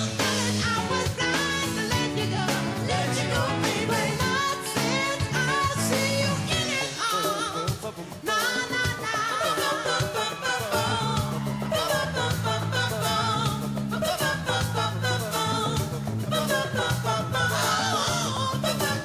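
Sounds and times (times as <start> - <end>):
band playing disco music: 0.0 - 19.0
person singing: 0.0 - 19.0.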